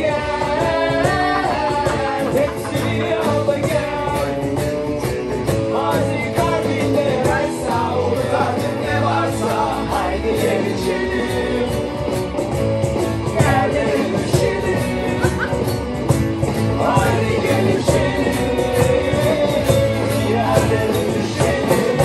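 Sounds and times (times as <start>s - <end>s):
acoustic guitar: 0.0s - 22.0s
group singing: 0.0s - 22.0s.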